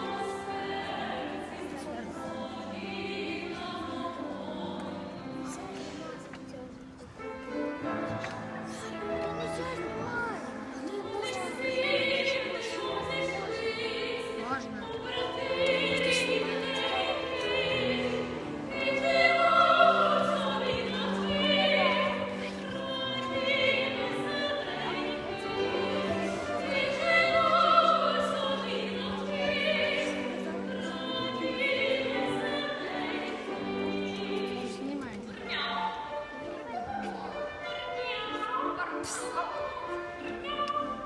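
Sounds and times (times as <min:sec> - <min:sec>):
operatic singing: 0:00.0 - 0:05.6, 0:11.0 - 0:41.0.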